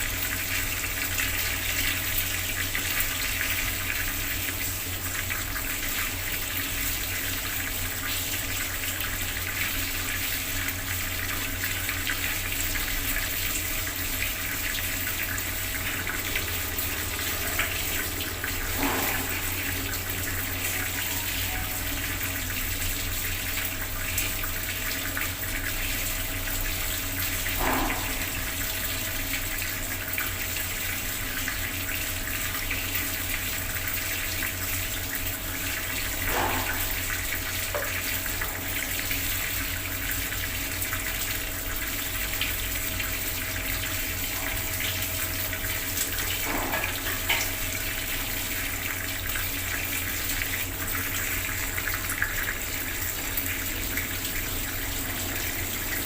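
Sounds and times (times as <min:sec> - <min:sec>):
tap water splashing into basin: 0:00.1 - 0:56.0.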